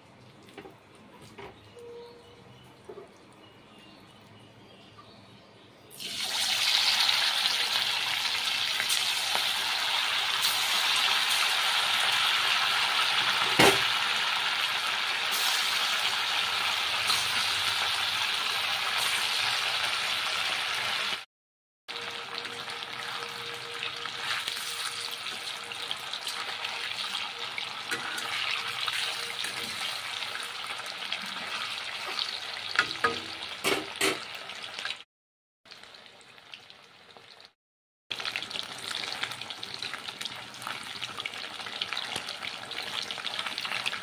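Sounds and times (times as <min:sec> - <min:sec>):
food deep-frying in hot oil: 0:05.9 - 0:21.3, 0:21.9 - 0:35.1, 0:35.7 - 0:44.0.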